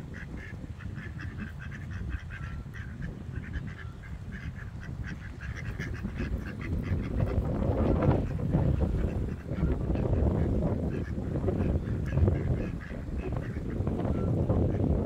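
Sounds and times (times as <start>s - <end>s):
ducks calling: 0.1s - 15.0s.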